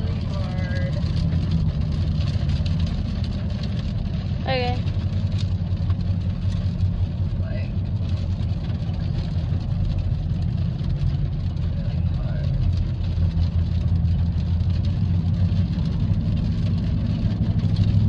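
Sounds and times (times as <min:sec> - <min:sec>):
vehicle engine and road drone: 0:00.0 - 0:18.0.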